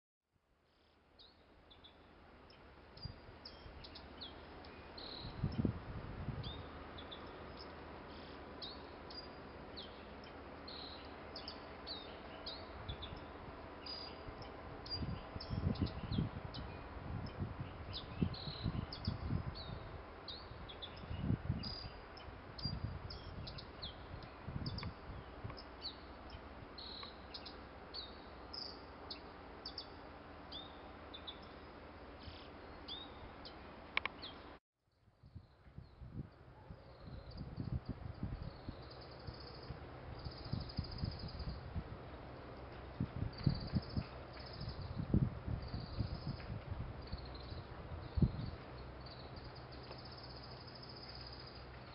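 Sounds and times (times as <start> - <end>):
small birds chirping: 6.4 - 34.5, 36.8 - 51.9.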